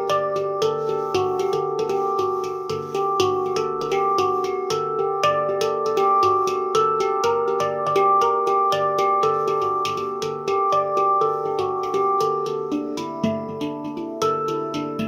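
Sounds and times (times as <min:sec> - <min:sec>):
handpan notes: 0:00.0 - 0:15.0.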